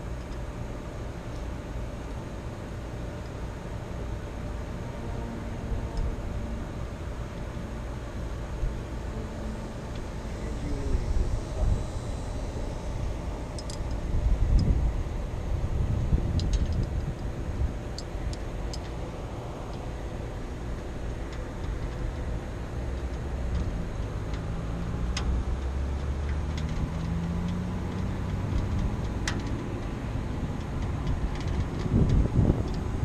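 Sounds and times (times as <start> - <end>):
faint engine-like drone: 0.0 - 33.0.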